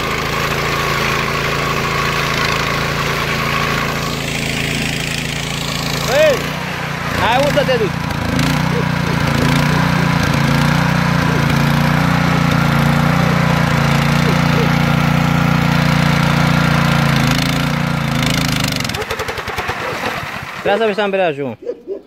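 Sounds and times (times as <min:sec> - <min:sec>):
tractor petrol engine running: 0:00.0 - 0:21.1
sickle-bar mower cutting grass: 0:00.0 - 0:21.2.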